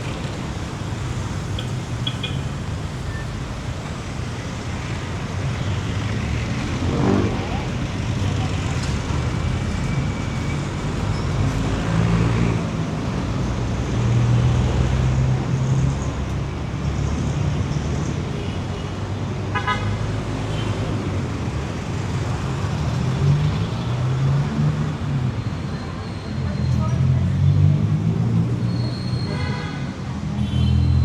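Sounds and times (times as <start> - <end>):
passing vehicle engines: 0.0 - 31.0.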